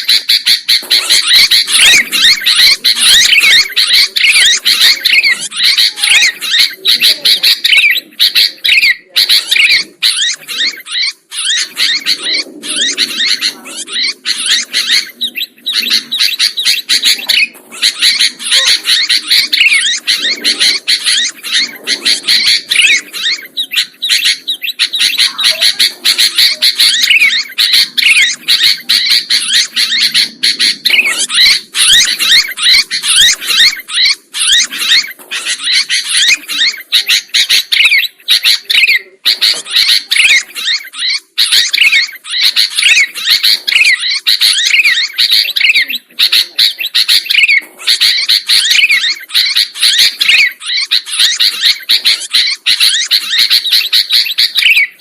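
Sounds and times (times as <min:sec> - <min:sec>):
bulbuls chirping in chorus: 0:00.0 - 0:55.0.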